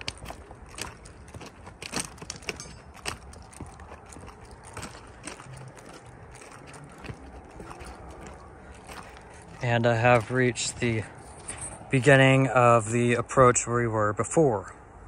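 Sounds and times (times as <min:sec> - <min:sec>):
footsteps on gravel: 0:00.0 - 0:13.1.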